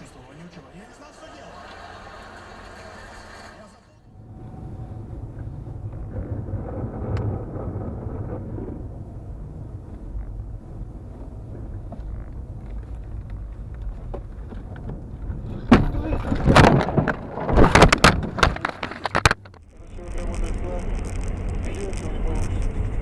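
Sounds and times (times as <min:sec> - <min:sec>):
car tyres and engine rumble: 0:00.0 - 0:23.0.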